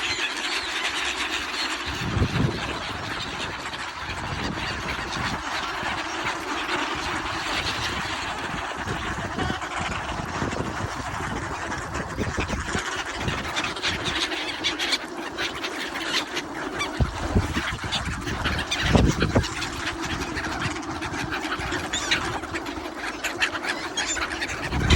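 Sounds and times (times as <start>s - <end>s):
ducks quacking: 0.0s - 24.9s.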